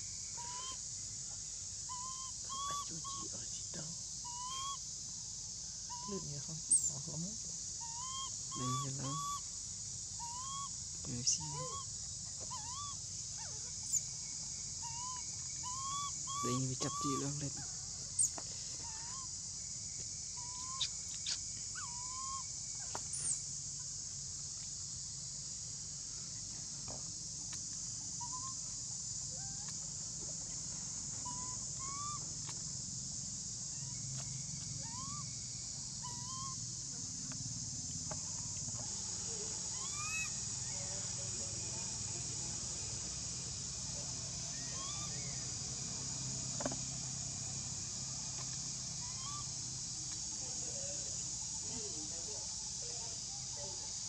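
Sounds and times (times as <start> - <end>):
high-pitched hiss: 0.0 - 54.0.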